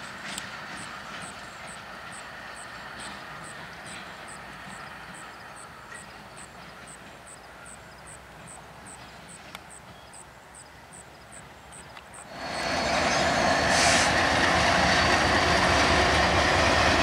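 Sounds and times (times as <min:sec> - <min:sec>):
distant diesel locomotives rumbling: 0:00.0 - 0:17.0.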